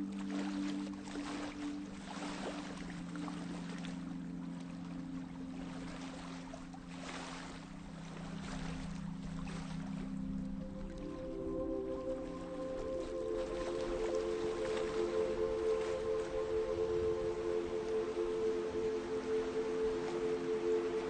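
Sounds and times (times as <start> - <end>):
low hum of held tones: 0.0 - 21.0.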